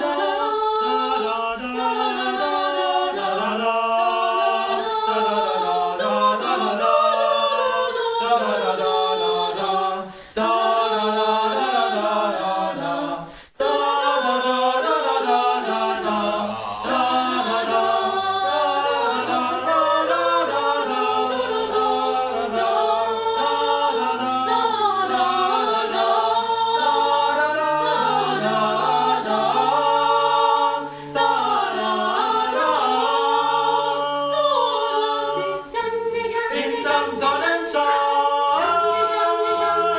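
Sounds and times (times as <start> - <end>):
a cappella group singing: 0.0 - 39.9.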